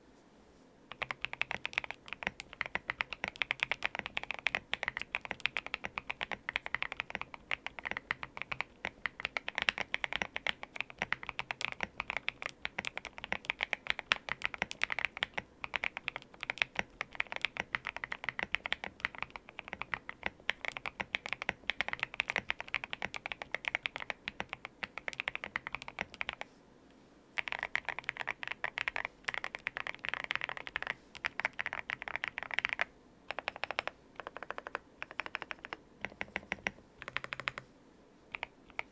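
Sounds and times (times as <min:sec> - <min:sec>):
fast mechanical keyboard typing: 0:00.9 - 0:26.4, 0:27.4 - 0:37.6, 0:38.3 - 0:38.9.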